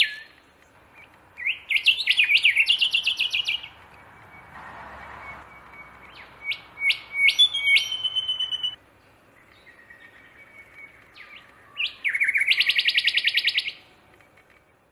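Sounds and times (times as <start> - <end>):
small songbird singing: 0.0 - 14.7.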